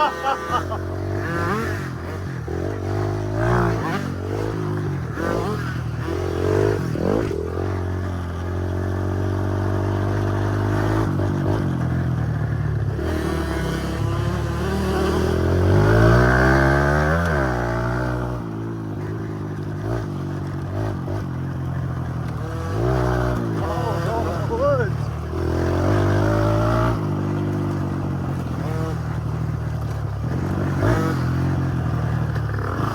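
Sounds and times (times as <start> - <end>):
dirt-bike engines revving: 0.0 - 32.9.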